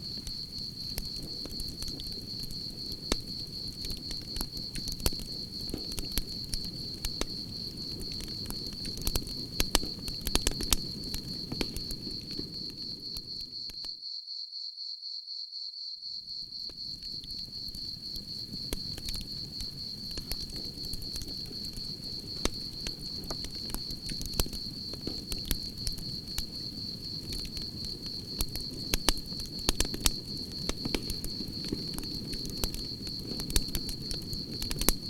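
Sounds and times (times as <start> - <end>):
campfire crackling and popping: 0.0 - 13.8, 16.7 - 35.0
cricket trilling: 0.0 - 35.0.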